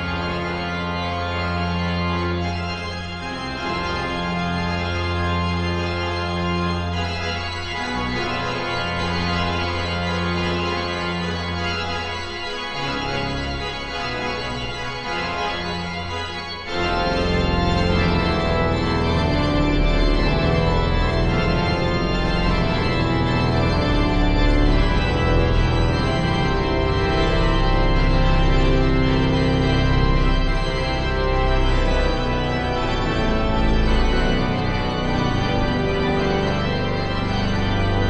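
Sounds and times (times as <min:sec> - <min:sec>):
organ music: 0:00.0 - 0:38.0
sustained organ pedal bass notes: 0:00.0 - 0:38.0.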